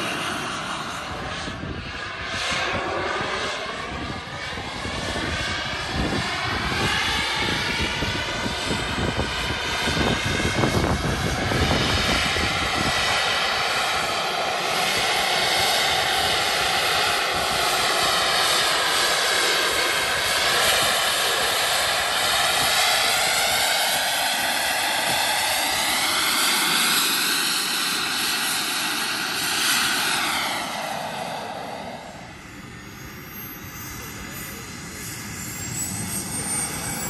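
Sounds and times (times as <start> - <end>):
model jet turbine roaring: 0.0 - 37.0.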